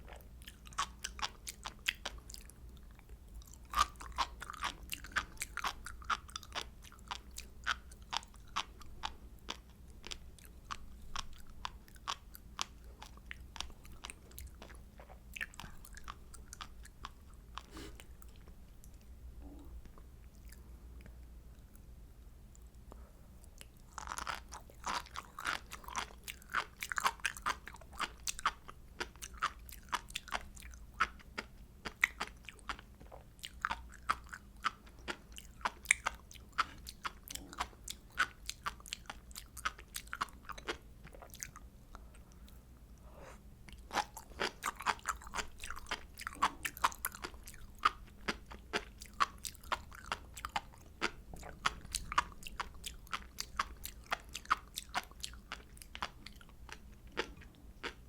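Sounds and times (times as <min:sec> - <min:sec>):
chewing with crunching clicks: 0:00.0 - 0:21.9, 0:22.5 - 0:43.0, 0:43.6 - 0:58.0.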